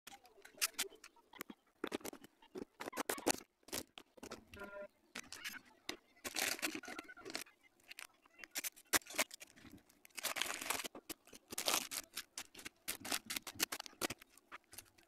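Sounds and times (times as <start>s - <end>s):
plastic sheet clicking and crinkling: 0.1s - 15.0s.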